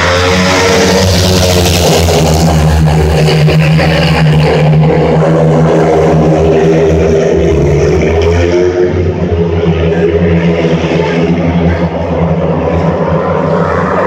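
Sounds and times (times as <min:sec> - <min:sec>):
motorcycles racing at full throttle: 0:00.0 - 0:14.0.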